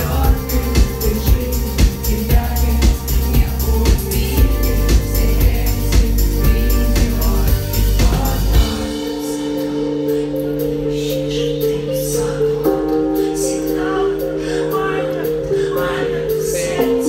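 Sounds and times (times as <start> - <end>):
sustained keyboard chords: 0.0 - 17.0
synth-pop backing with bass beat: 0.0 - 17.0
woman singing: 0.0 - 17.0.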